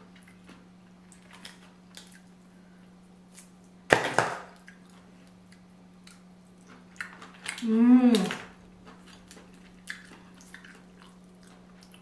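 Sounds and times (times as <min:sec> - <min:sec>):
loud crunching while eating: 0:00.1 - 0:02.5, 0:04.5 - 0:12.0.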